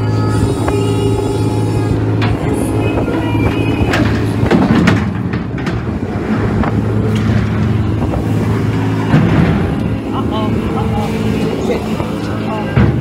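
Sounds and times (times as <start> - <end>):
boat engine low drone: 0.0 - 13.0
knocks and clanks: 2.1 - 13.0.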